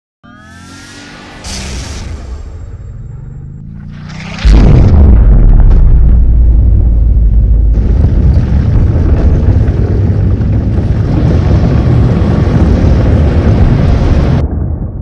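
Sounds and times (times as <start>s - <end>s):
low explosion rumble: 1.7s - 15.0s.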